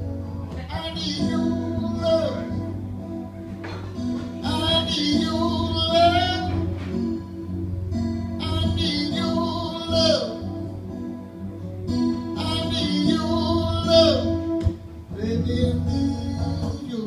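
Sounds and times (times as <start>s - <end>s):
strummed acoustic guitar: 0.0s - 17.0s
person singing long notes: 0.5s - 7.5s, 8.2s - 11.4s, 12.2s - 17.0s.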